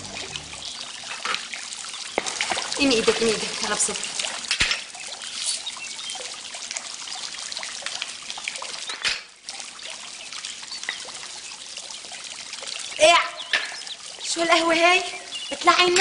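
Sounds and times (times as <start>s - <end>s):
fountain jet trickling into basin: 0.0s - 16.0s.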